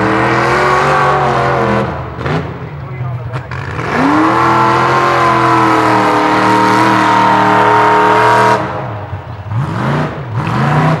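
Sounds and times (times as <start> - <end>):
pickup truck engine revving: 0.0 - 11.0.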